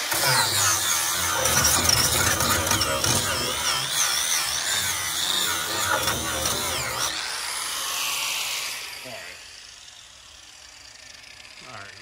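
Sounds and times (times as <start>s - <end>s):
grinder whining against metal: 0.0s - 12.0s.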